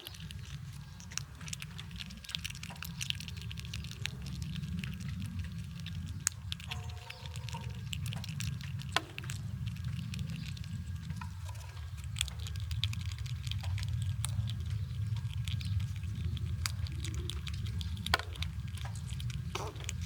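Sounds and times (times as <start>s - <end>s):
low rumble: 0.0s - 20.0s
squirrels cracking nut shells: 0.0s - 20.0s.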